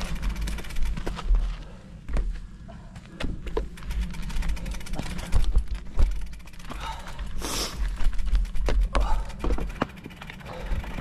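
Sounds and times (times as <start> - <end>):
bike knocks and rattles: 0.0 - 2.4, 3.0 - 11.0
tyres and wind rumble: 0.0 - 11.0.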